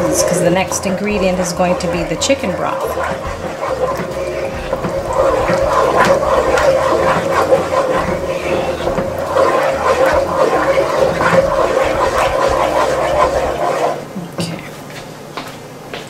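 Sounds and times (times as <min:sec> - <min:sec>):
spoon squelching and scraping roux: 0:00.0 - 0:14.1
steady hum: 0:00.0 - 0:16.0.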